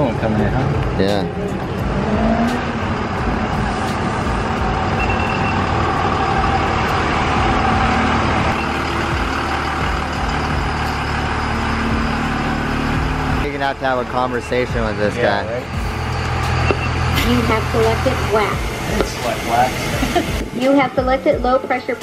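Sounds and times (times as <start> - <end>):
pickup truck engine running: 0.0 - 22.0.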